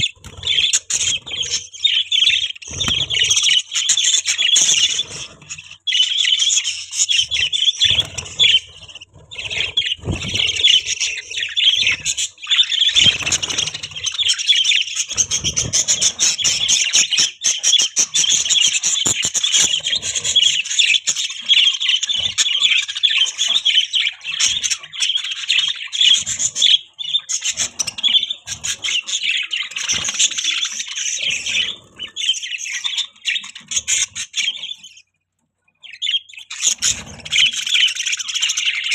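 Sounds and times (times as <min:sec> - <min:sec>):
budgerigars chattering: 0:00.0 - 0:35.0, 0:35.8 - 0:38.9.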